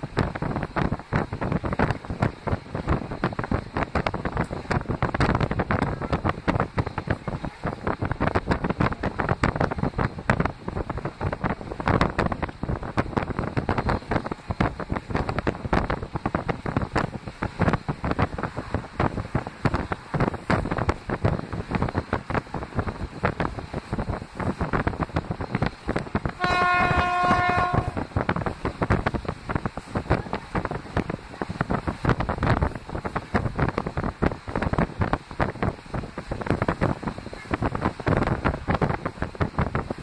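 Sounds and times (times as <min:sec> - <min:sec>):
moving train running noise: 0:00.0 - 0:40.0
wind buffeting microphone: 0:00.0 - 0:40.0.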